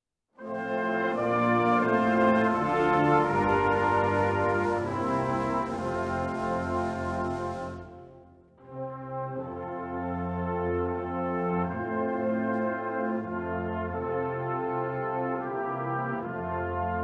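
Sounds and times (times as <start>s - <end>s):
brass band playing hymn chords: 0.4s - 17.0s.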